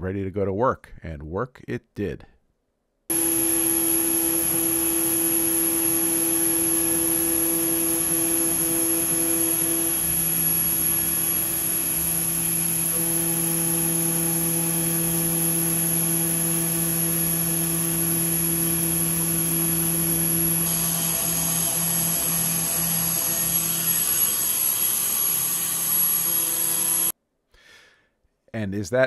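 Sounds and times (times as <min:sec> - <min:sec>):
milling machine cutting metal whine: 0:03.1 - 0:27.1.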